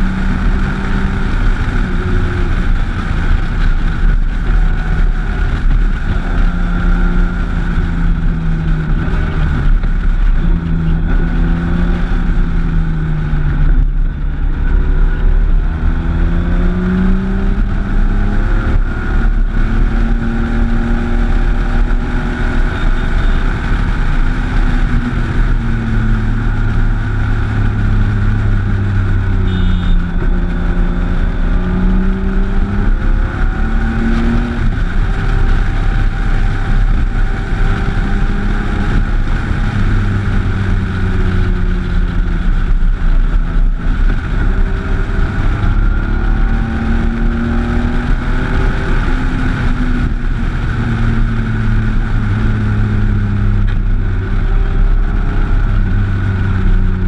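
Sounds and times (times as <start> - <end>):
motorcycle engine revving: 0.0 - 57.0
wind noise on microphone: 0.0 - 57.0.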